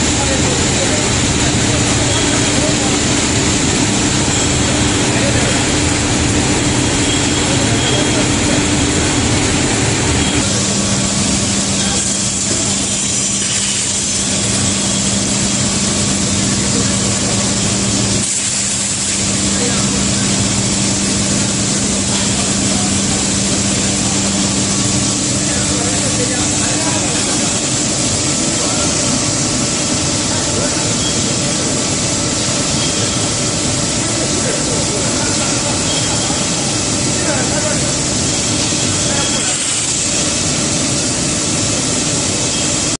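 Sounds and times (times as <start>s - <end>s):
low machinery hum: 0.0s - 42.9s
rush of air and machinery: 0.0s - 42.9s.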